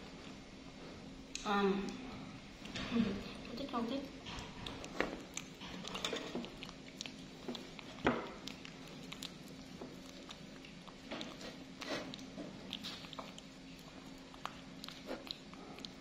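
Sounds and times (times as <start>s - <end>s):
faint steady hum: 0.0s - 16.0s
monkeys handling and eating fruit: 0.0s - 16.0s.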